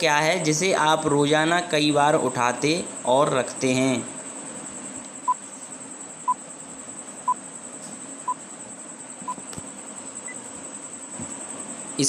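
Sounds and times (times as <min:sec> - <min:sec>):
high-pitched whine and hiss: 0:00.0 - 0:12.0.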